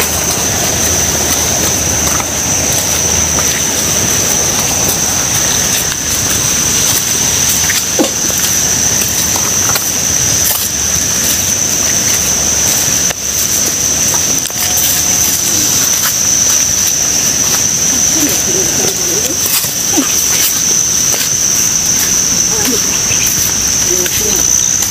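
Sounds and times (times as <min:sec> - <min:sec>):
footsteps on stones: 0:00.0 - 0:24.9
high-pitched insect drone: 0:00.0 - 0:24.9
rushing water: 0:00.0 - 0:24.9.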